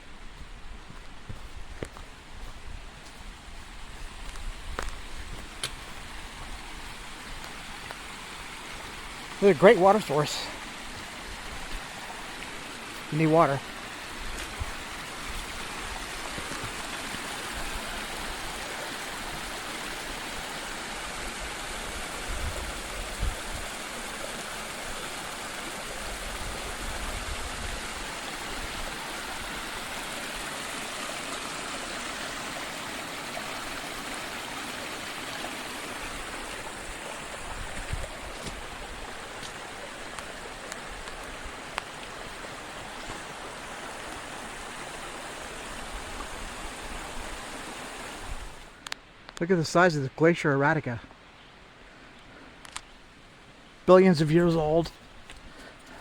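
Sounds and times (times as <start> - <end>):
stream flowing over rocks: 0.0 - 49.3, 51.6 - 56.0.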